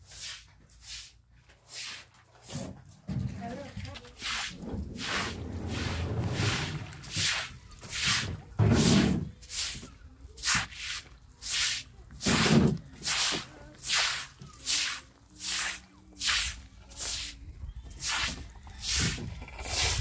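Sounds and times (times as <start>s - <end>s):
broom swishing water on concrete: 0.0s - 20.0s.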